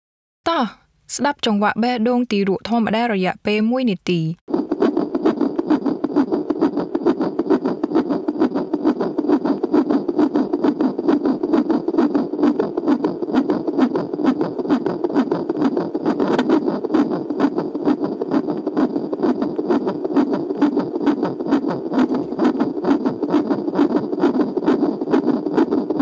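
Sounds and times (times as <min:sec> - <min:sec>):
whooshing fetal heartbeat: 0:04.4 - 0:26.0.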